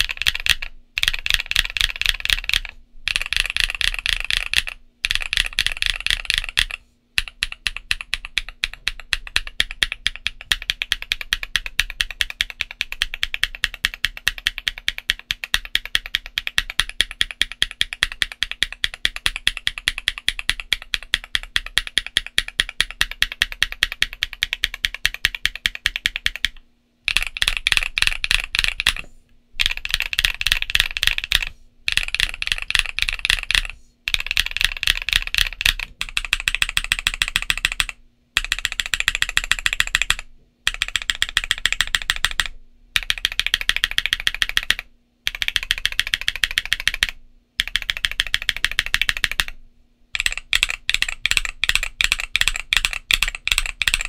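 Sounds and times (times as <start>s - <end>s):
fast typing on mechanical keyboard: 0.0s - 54.0s.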